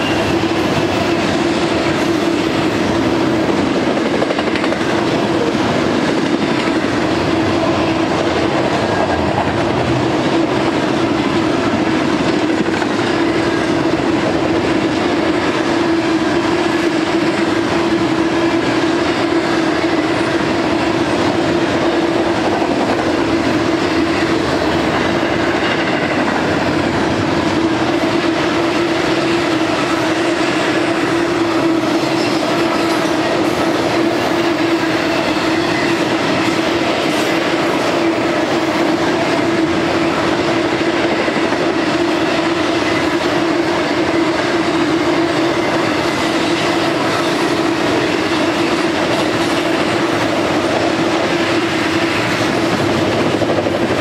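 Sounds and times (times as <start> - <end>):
constant drone: 0.0 - 54.0
train wheels on rails: 0.0 - 54.0.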